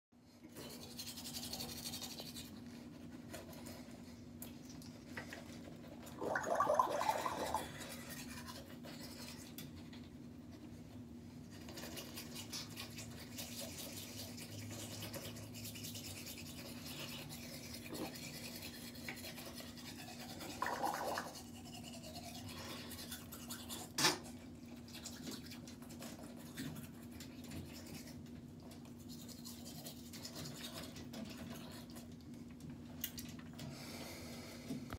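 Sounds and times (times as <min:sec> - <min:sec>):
toothbrush scrubbing teeth: 0:00.3 - 0:10.8, 0:11.4 - 0:32.3.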